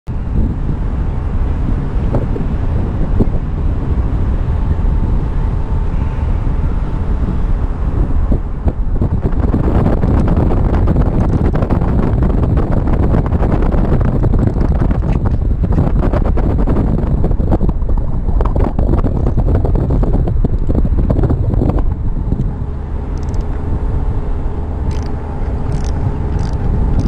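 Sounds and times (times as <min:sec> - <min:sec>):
wind buffeting microphone: 0:00.1 - 0:27.0.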